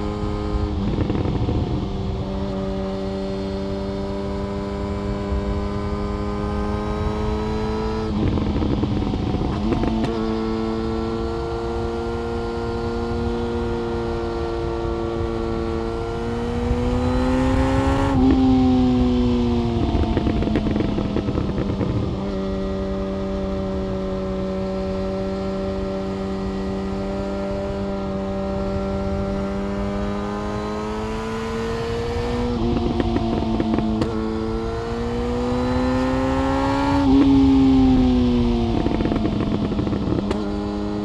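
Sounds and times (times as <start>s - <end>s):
wind rush: 0.0s - 41.0s.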